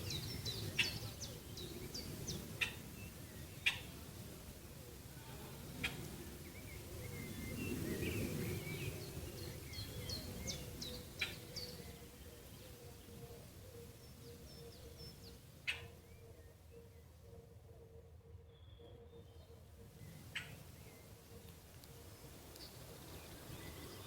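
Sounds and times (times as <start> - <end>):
small birds chirping: 0.0 - 4.0, 5.7 - 17.1, 18.4 - 24.0.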